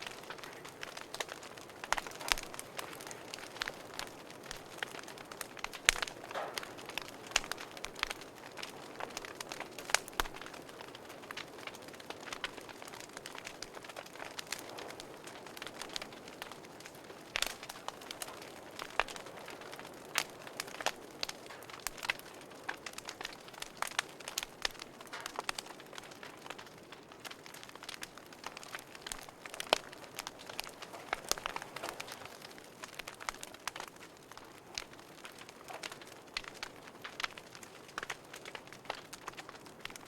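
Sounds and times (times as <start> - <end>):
soft steady hiss: 0.0 - 40.0
wood fire crackling and popping: 0.0 - 40.0.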